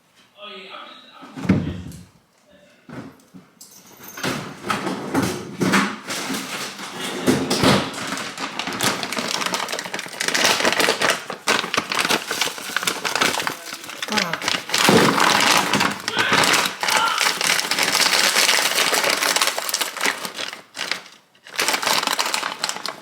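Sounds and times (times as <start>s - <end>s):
kitchen items tapping and knocking: 3.0s - 23.0s.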